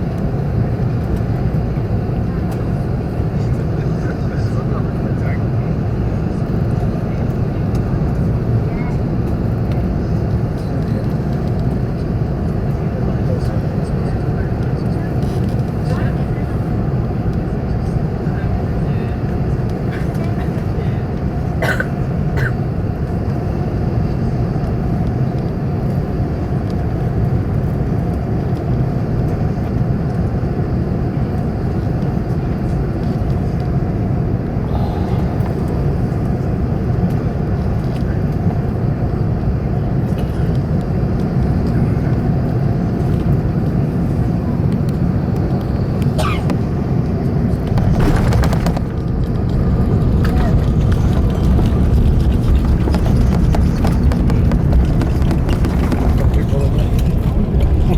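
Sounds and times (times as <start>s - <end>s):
airliner cabin engine rumble: 0.0s - 57.9s.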